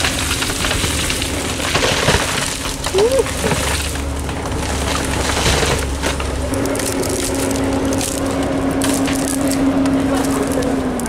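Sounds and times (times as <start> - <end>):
excavator engine droning: 0.0 - 11.0
wood cracking and splintering: 0.0 - 11.0.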